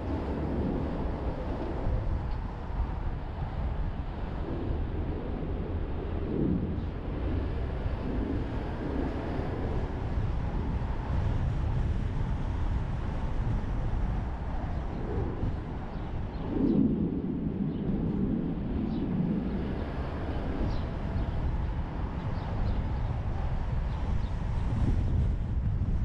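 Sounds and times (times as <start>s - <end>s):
rumble of tyres and engine: 0.0s - 26.0s.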